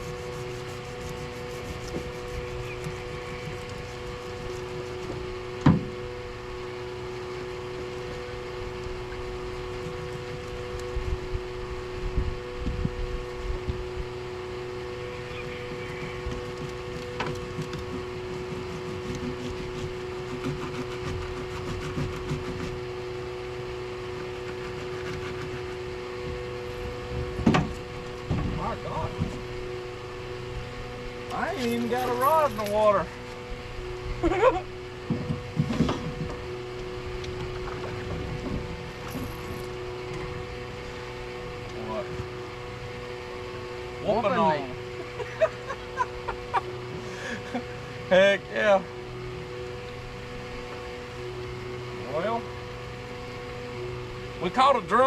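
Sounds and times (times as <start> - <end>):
two-tone electric hum: 0.0 - 55.0.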